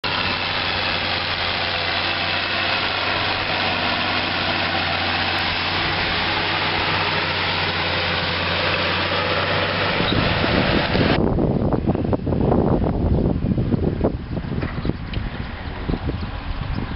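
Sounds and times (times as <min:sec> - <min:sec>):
tractor diesel engine drone: 0:00.0 - 0:16.9.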